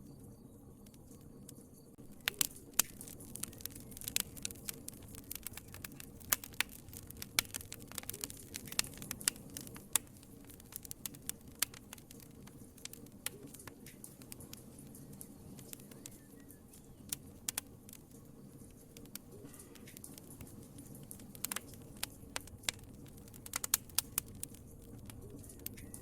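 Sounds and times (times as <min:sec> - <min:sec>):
wood fire crackling: 0:00.2 - 0:26.0.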